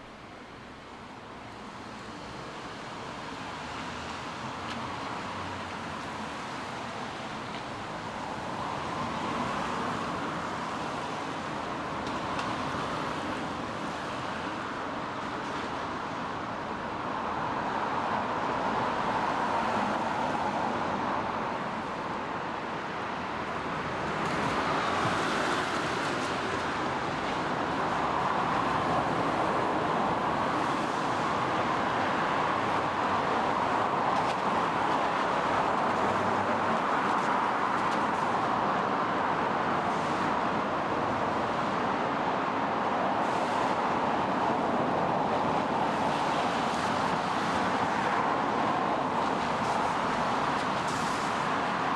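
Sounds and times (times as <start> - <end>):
tyres hissing on wet road: 1.4 - 51.9.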